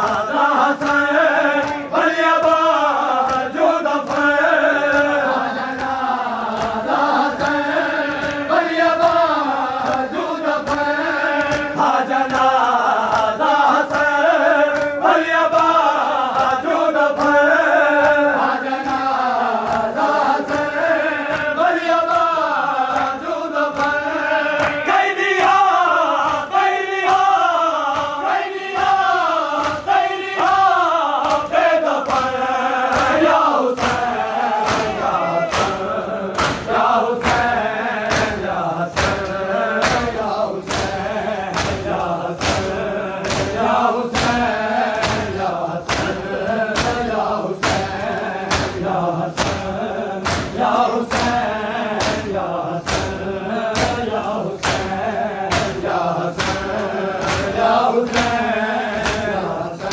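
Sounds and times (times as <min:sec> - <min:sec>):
hands slapping on chests: 0:00.0 - 0:59.9
men chanting in unison: 0:00.0 - 0:59.9.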